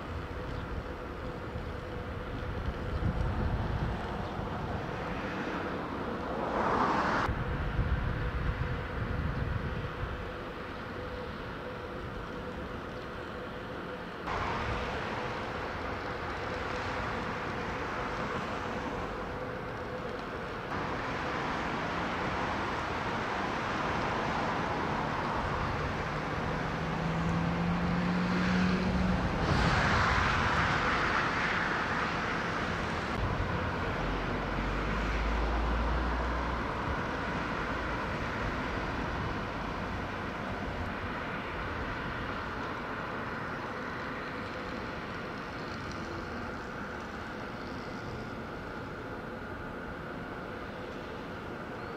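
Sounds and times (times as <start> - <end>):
distant traffic and machinery hum: 0.0 - 51.9
passing vehicle: 0.0 - 51.9.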